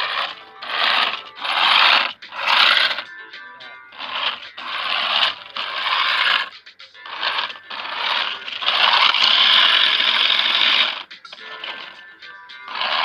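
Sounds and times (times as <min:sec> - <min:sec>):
toy truck motor whirring: 0:00.0 - 0:13.0.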